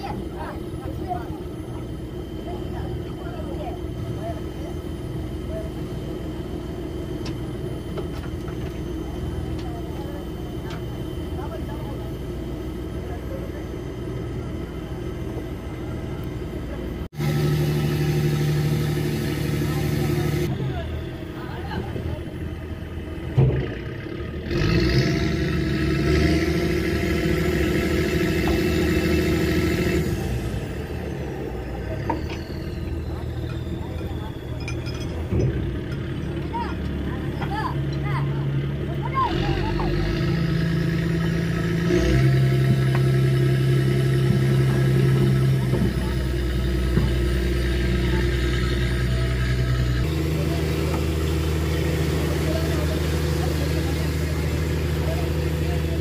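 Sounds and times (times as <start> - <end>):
boat engine low rumble: 0.0 - 56.0
machine drone with whine: 0.0 - 56.0.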